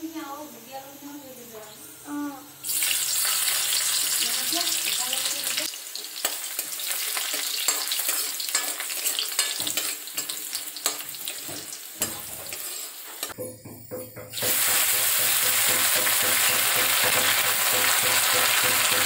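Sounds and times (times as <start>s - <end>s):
garlic sizzling in hot oil: 0.1s - 13.4s, 14.3s - 19.0s
utensil scraping a wok: 2.7s - 13.4s, 14.4s - 19.0s.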